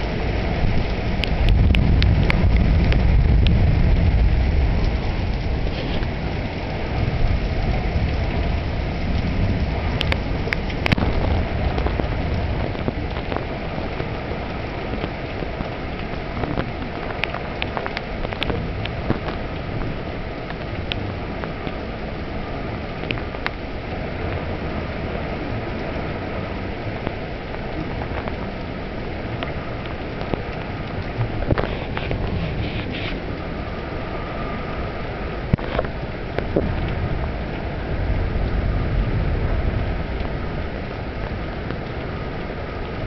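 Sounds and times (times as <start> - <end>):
heavy rain falling: 0.0 - 43.0
low rumble of thunder: 0.0 - 43.0
raindrops tapping nearby: 0.0 - 43.0.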